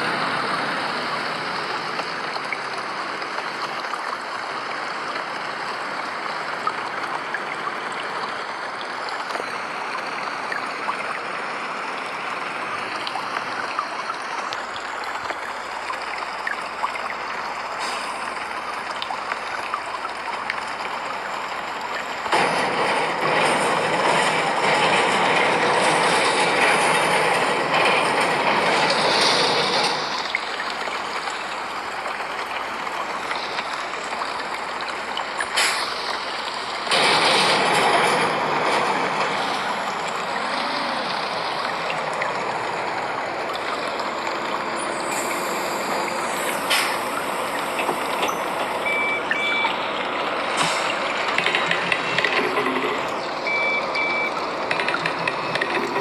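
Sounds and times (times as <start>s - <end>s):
tyres hissing on wet road: 0.0s - 3.6s, 4.4s - 19.5s, 20.1s - 56.0s
buses passing: 0.0s - 56.0s
rain: 0.0s - 56.0s.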